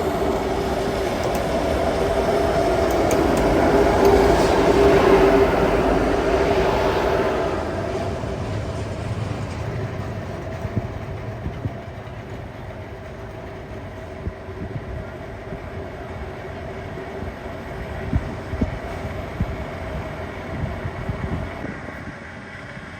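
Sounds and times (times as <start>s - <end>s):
railway cars rumbling on track: 0.0s - 22.9s.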